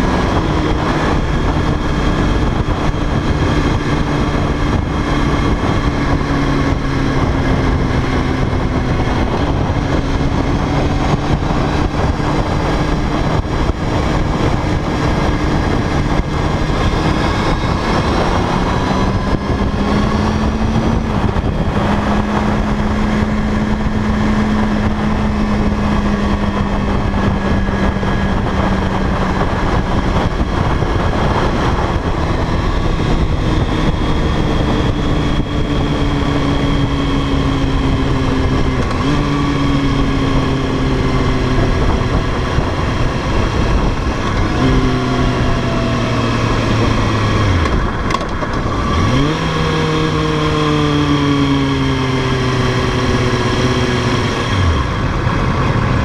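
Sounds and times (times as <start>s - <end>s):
motorcycle engine running: 0.0s - 56.0s
wind rushing on microphone: 0.0s - 56.0s.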